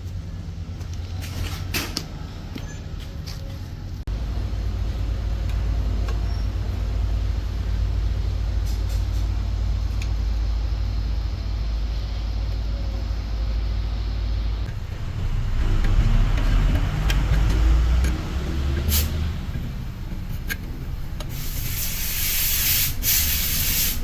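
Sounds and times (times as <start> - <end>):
low mechanical rumble: 0.0 - 24.0.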